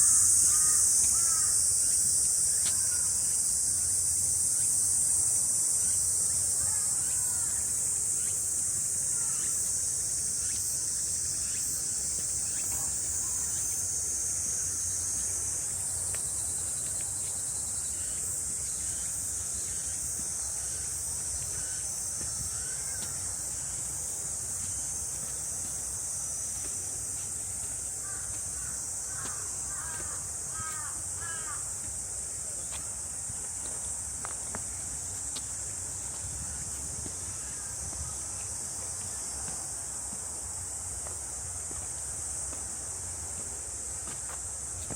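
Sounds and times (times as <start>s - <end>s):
cicadas droning: 0.0s - 44.9s.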